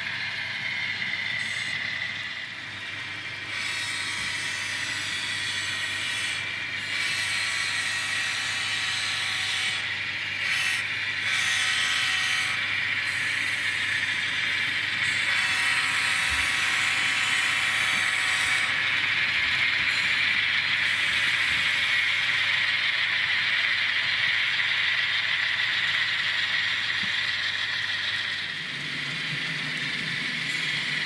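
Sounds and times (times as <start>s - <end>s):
model train motor whirring: 0.0s - 31.0s.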